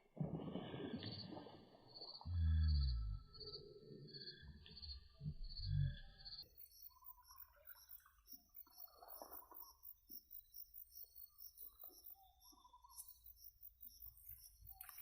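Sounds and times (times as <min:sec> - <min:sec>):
insects chirping: 0:01.2 - 0:15.0.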